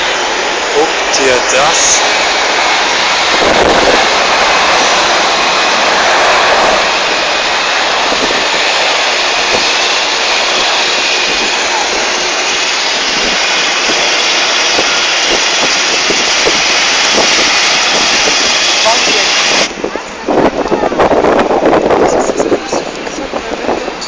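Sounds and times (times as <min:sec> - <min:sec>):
jet engines rushing with whine: 0:00.0 - 0:24.0.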